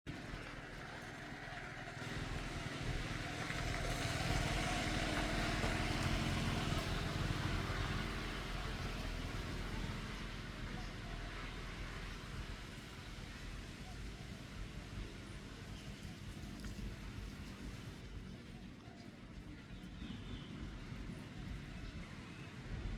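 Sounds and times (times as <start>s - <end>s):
motor engine running: 0.1s - 22.9s.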